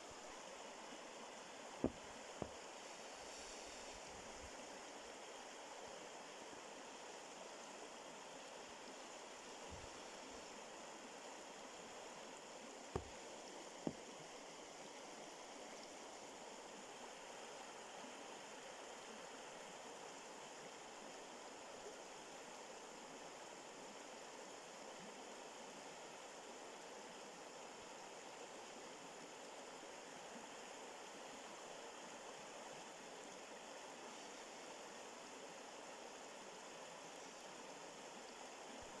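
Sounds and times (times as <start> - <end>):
faint flowing water: 0.0 - 39.0.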